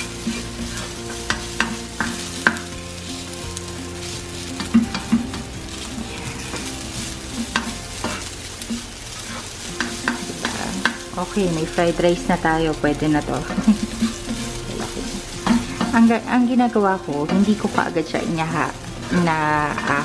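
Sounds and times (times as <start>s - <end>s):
rice sizzling in a pan: 0.0s - 20.0s
spoon knocking and scraping pan: 0.0s - 20.0s.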